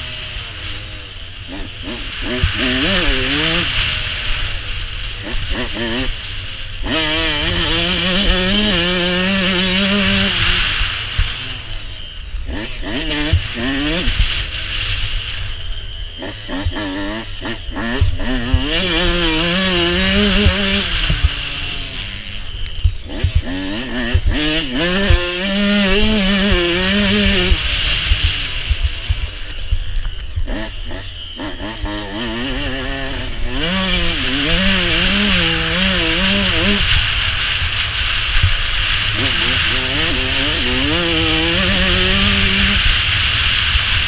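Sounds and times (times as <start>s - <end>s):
motocross bike engine revving: 0.0s - 44.0s
wind rushing over camera: 0.0s - 44.0s.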